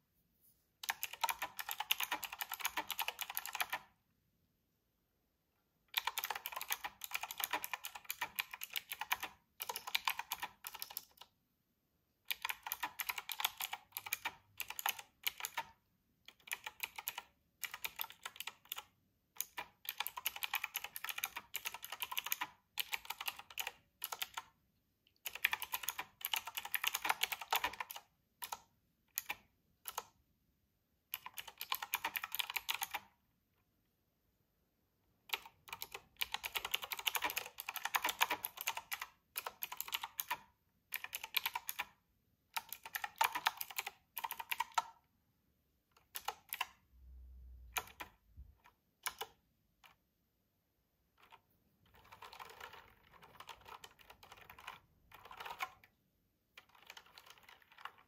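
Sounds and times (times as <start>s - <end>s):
mechanical keyboard typing: 0.8s - 3.9s, 5.9s - 11.4s, 12.3s - 30.2s, 31.1s - 33.2s, 35.2s - 45.0s, 45.9s - 50.0s, 51.1s - 58.0s.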